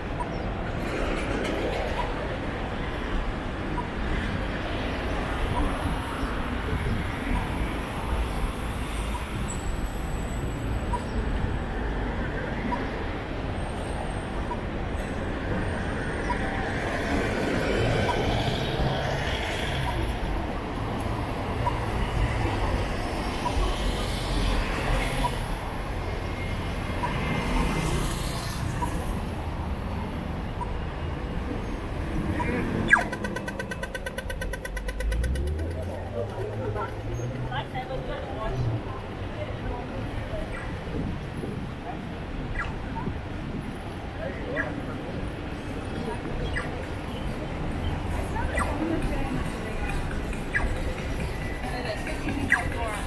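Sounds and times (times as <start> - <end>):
cars driving past: 0.0 - 53.0
street traffic: 0.0 - 53.0.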